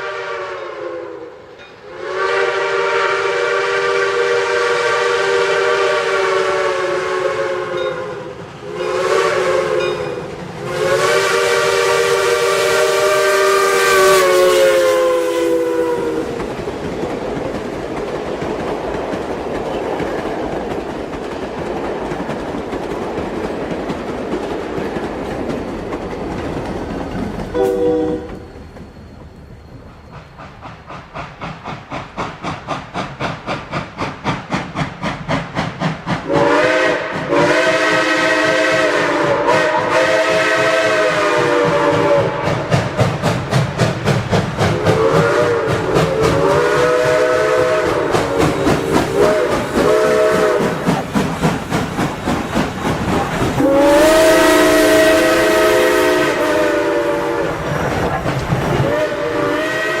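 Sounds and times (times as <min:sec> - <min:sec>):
steam locomotive chuffing: 0:00.0 - 1:00.0.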